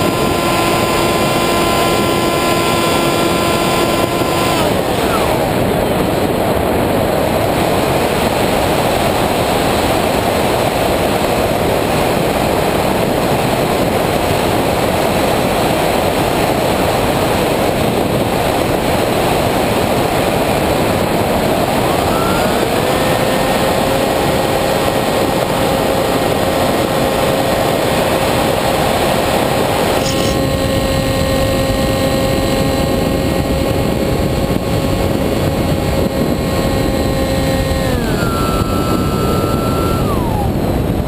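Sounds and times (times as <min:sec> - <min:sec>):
electric motor propeller whine: 0:00.0 - 0:41.0
wind rushing over camera: 0:00.0 - 0:41.0.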